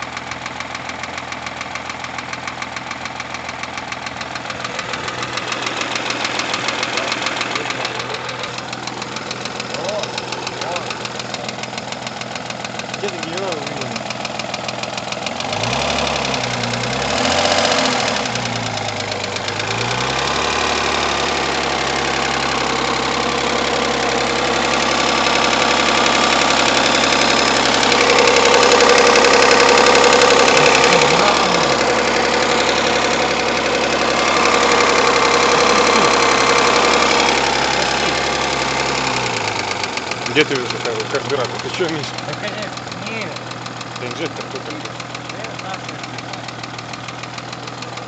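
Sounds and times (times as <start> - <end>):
car engine running with heavy knock: 0.0 - 48.0.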